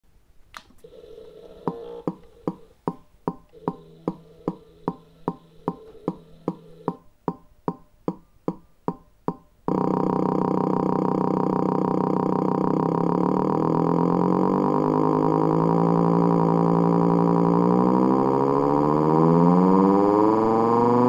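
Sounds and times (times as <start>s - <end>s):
faint steady hum: 0.1s - 21.0s.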